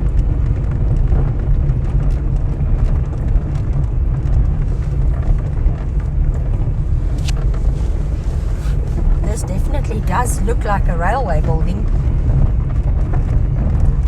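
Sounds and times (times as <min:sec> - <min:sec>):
vehicle road rumble: 0:00.0 - 0:14.0.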